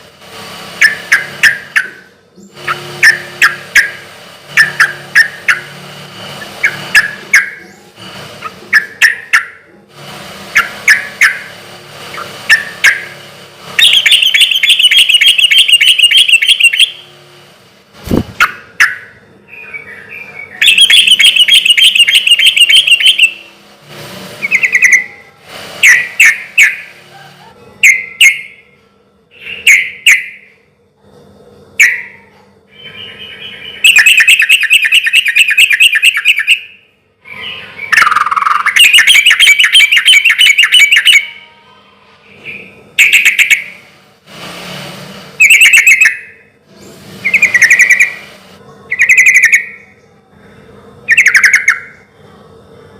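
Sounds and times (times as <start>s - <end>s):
bird chirping and trilling: 0.8s - 5.8s, 6.4s - 9.7s, 10.5s - 13.2s, 13.8s - 17.1s, 18.1s - 23.5s, 24.4s - 28.7s, 29.3s - 30.5s, 31.8s - 41.5s, 42.2s - 43.8s, 45.4s - 46.4s, 47.2s - 52.1s.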